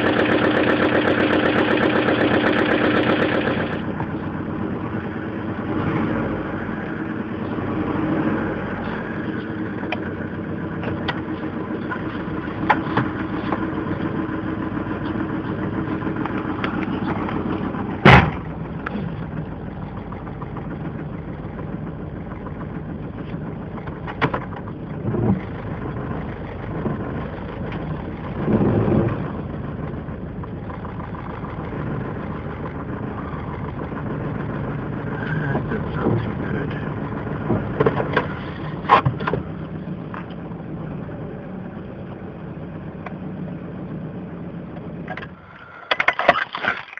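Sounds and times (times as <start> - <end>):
car engine running with a knock: 0.0 - 7.6, 8.7 - 42.2, 42.8 - 44.0.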